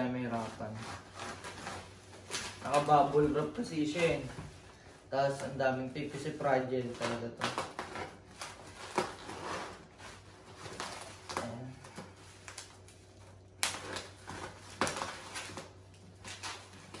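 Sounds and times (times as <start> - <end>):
plastic crinkling: 0.0 - 17.0.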